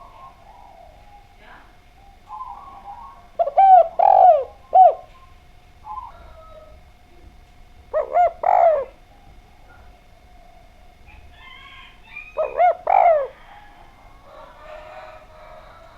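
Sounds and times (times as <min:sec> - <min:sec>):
dove cooing: 0:00.0 - 0:15.9.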